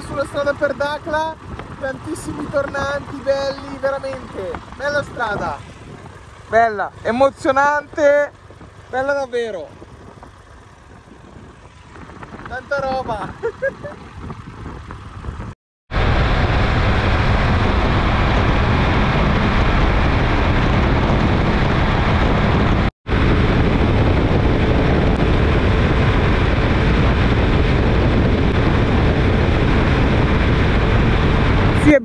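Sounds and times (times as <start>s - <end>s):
motorcycle engine drone: 0.0s - 32.0s
wind rush on microphone: 0.0s - 32.0s.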